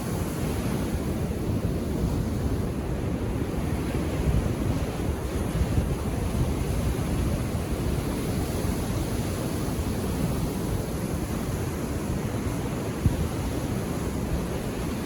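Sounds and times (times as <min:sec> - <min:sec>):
ocean surf washing on beach: 0:00.0 - 0:15.0
wind rumble on microphone: 0:00.0 - 0:15.0.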